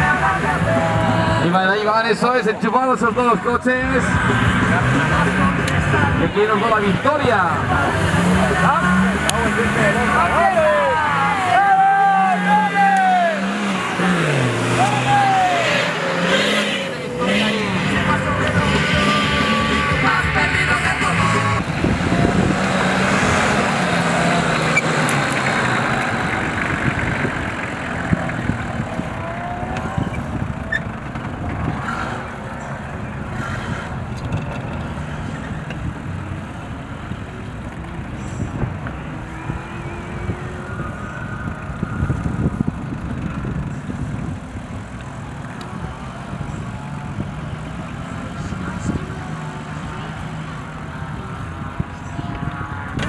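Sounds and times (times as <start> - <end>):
off-road engines revving: 0.0 - 53.0.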